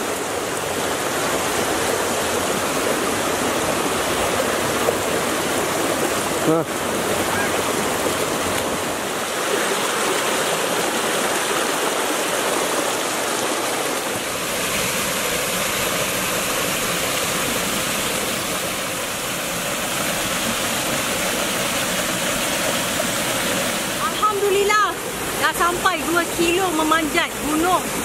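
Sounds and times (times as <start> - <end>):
stream rushing over boulders: 0.0 - 28.0.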